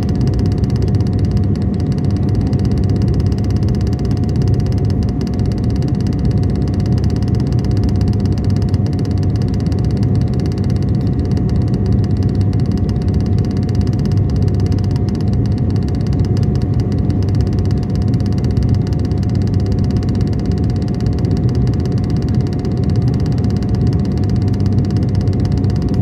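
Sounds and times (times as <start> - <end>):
aircraft engine rumble: 0.0 - 26.0.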